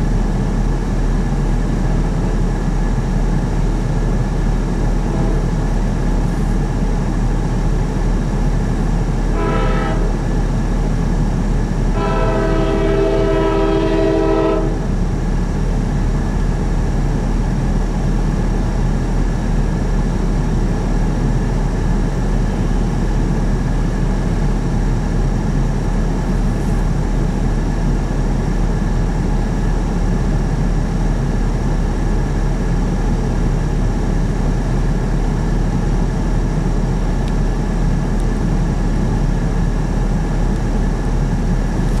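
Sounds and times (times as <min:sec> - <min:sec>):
freight train rumbling past: 0:00.0 - 0:42.0.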